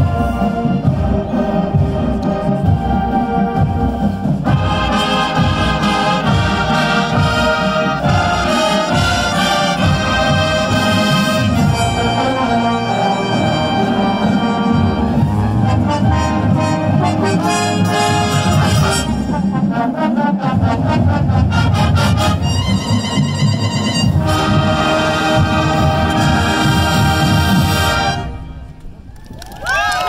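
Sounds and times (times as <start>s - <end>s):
marching band playing: 0.0s - 29.1s.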